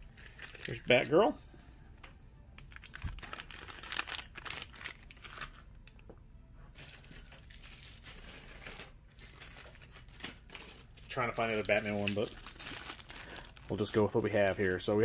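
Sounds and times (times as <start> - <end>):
plastic bags crinkling: 0.0 - 1.2, 2.6 - 5.7, 6.8 - 15.0.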